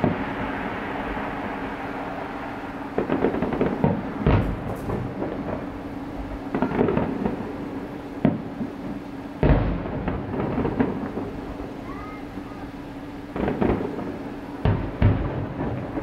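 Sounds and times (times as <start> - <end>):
distant fireworks booming: 0.0 - 16.0
fireworks crackling: 0.0 - 16.0.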